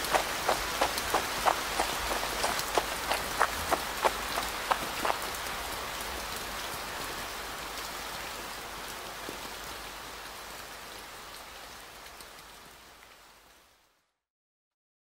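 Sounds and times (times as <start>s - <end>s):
steady rain: 0.0s - 14.1s.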